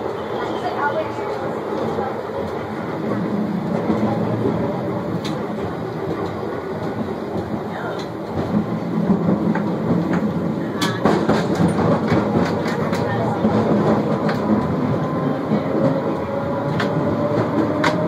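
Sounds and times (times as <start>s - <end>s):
streetcar running rumble: 0.0s - 18.0s.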